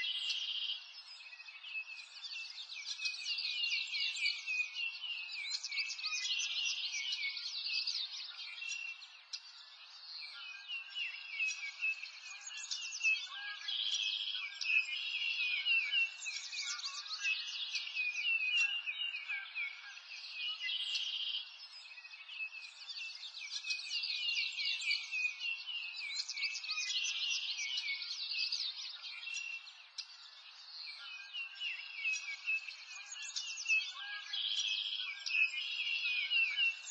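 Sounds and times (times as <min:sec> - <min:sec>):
small birds chirping and trilling: 0:00.0 - 0:36.9.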